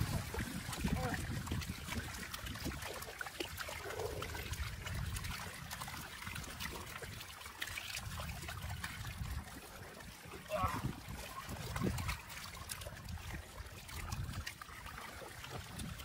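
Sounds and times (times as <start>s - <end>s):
small clicks and splashes: 0.0s - 16.0s
water trickling and sloshing: 0.0s - 16.0s.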